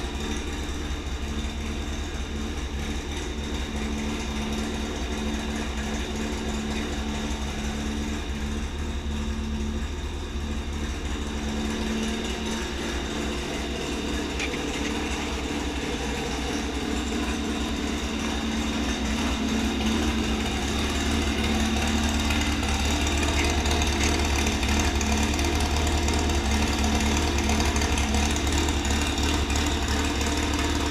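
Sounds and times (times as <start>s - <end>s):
car engine rumbling: 0.0s - 30.9s.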